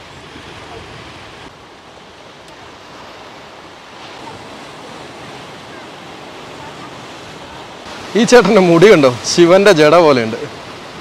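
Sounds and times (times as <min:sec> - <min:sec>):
sea waves breaking on rocks: 0:00.0 - 0:11.0.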